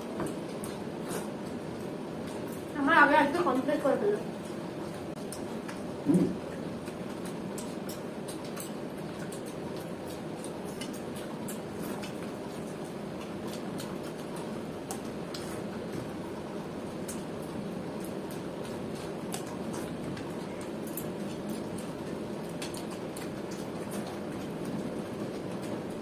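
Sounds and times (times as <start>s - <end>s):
chewing mouth sounds: 4.4s - 26.0s.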